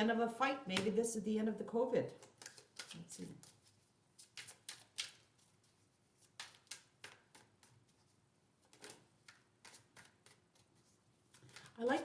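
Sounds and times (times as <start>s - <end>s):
cards being shuffled by hand: 2.1s - 12.0s.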